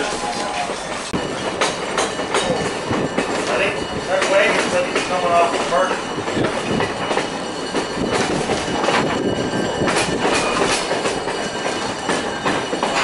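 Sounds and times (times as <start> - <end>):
train coach rumbling and rattling: 0.0 - 13.0
wheels clicking over rail joints: 0.0 - 13.0.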